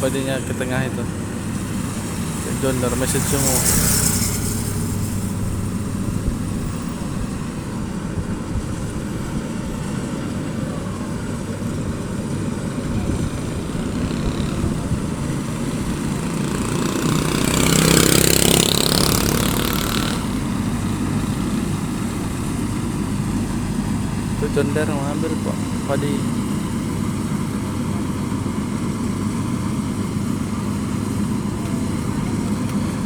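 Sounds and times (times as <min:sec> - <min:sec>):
farm machinery engine running: 0:00.0 - 0:33.0.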